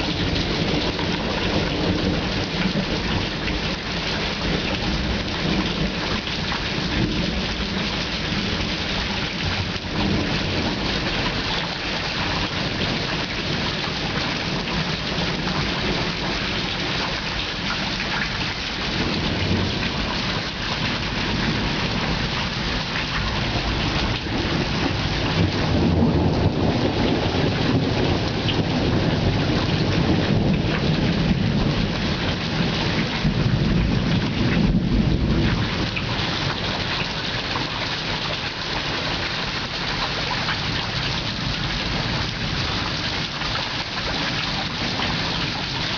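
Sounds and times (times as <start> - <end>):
thunder rumbling: 0.0 - 17.0, 18.4 - 45.9
steady rain falling: 0.0 - 45.9.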